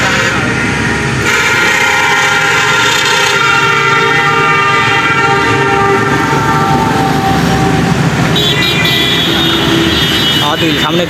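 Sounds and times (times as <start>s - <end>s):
long vehicle horn: 0.0s - 11.0s
road traffic: 0.0s - 11.0s.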